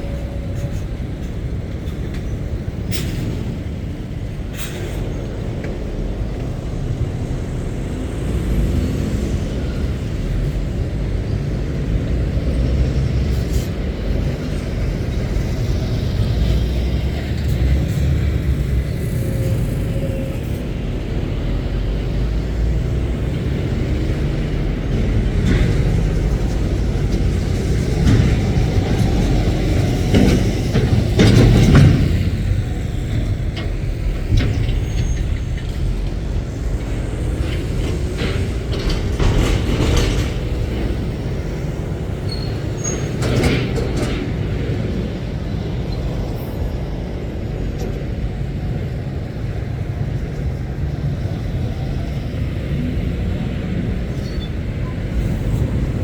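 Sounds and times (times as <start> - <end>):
lorry diesel engines rumbling: 0.0 - 56.0.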